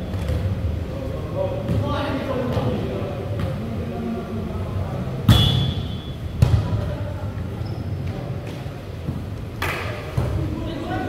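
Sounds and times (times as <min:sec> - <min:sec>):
volleyball thudding in a hall: 0:00.0 - 0:11.0.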